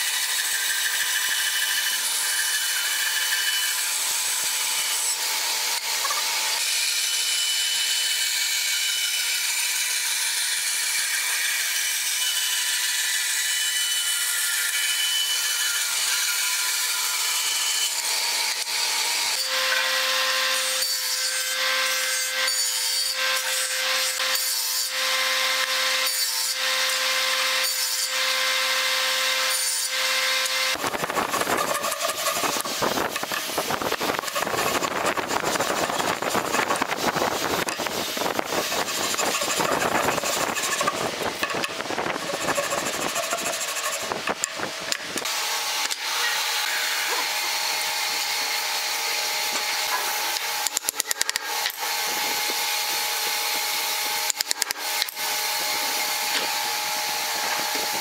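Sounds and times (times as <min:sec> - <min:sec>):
hand saw rasping through wood: 0:00.0 - 0:44.6, 0:45.2 - 0:58.0
table saw hum and blade whine: 0:00.0 - 0:58.0.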